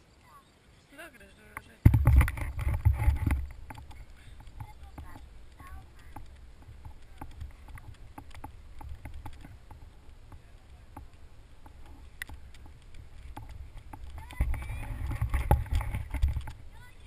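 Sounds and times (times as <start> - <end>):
faint clicks and ticks: 1.3 - 17.0
wind buffeting microphone: 1.8 - 17.0.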